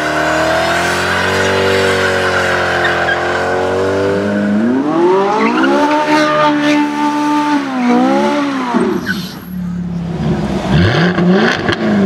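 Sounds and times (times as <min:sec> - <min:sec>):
car engine revving hard: 0:00.0 - 0:09.0, 0:10.2 - 0:12.0.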